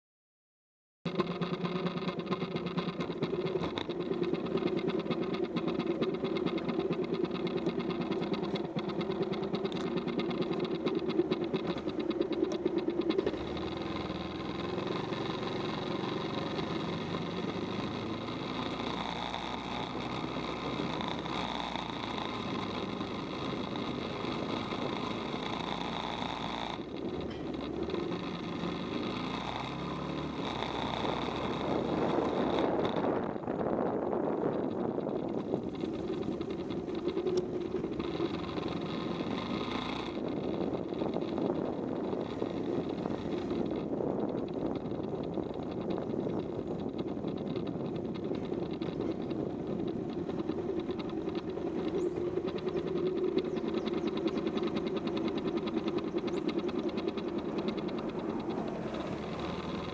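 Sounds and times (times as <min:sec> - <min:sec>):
motorcycle engine running: 0:01.1 - 0:59.9.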